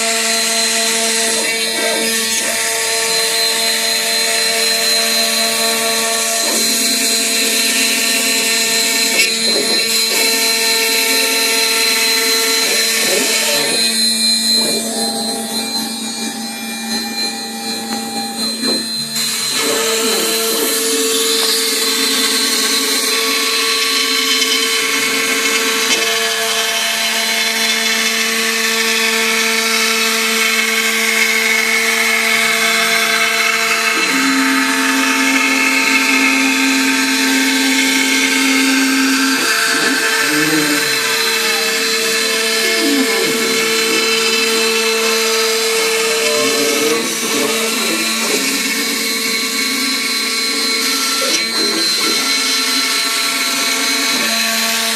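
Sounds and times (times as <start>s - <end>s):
router spindle running: 0.0s - 54.9s
whining motor tones: 0.0s - 54.9s.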